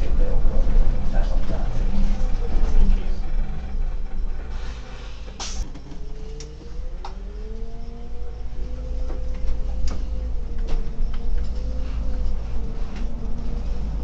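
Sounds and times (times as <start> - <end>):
bus engine rumble and whine: 0.0 - 14.0.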